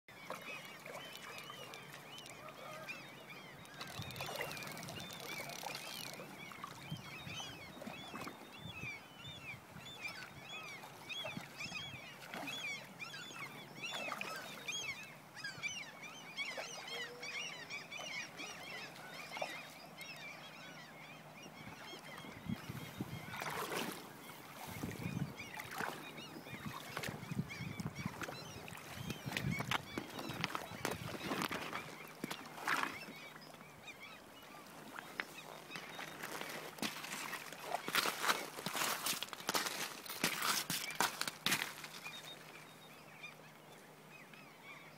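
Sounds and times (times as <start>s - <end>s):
birds calling: 0.1s - 44.9s.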